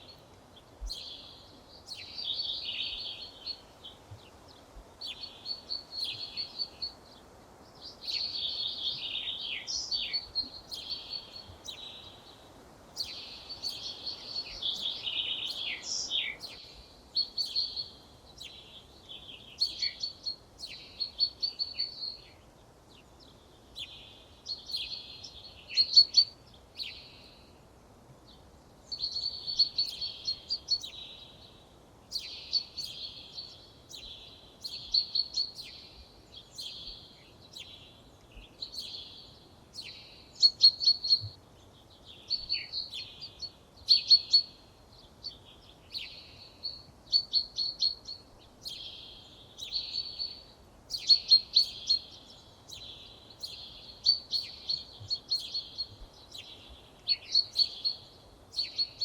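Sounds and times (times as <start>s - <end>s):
faint background hiss: 0.0s - 59.0s
songbird singing: 0.0s - 59.0s.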